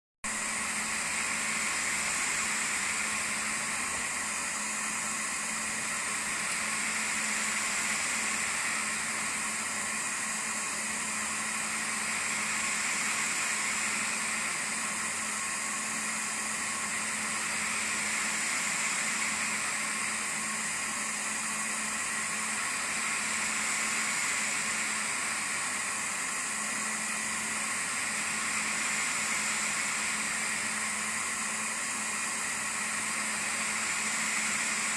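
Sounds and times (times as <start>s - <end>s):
laser engraver fans whooshing: 0.3s - 34.9s.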